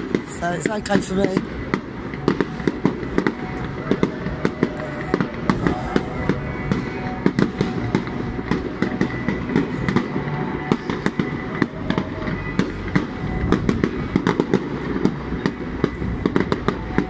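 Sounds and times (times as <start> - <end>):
fireworks cracking and banging: 0.0 - 17.0
steady low rumble: 0.0 - 17.0.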